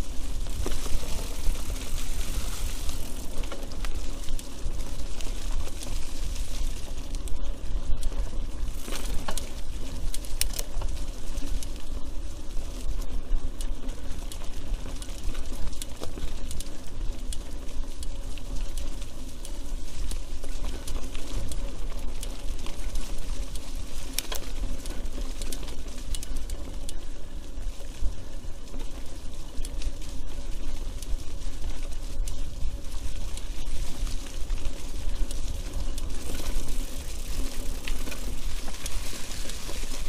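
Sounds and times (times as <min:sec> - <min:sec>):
bike clicking and rattling: 0:00.0 - 0:40.0
bike low rumble: 0:00.0 - 0:40.0.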